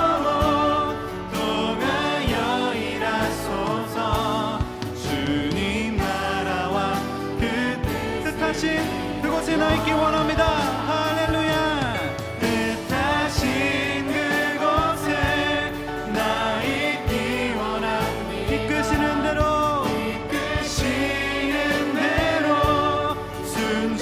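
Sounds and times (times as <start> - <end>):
acoustic guitar: 0.0 - 24.0
group singing worship song: 0.0 - 24.0.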